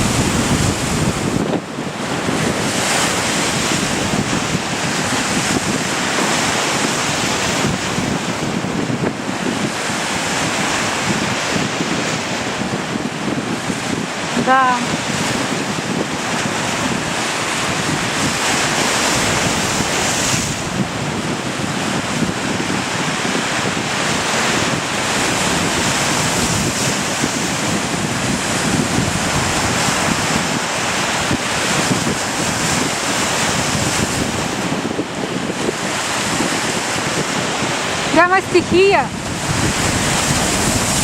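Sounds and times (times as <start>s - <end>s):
waves breaking on shore: 0.0s - 41.0s
wind buffeting microphone: 0.0s - 41.0s.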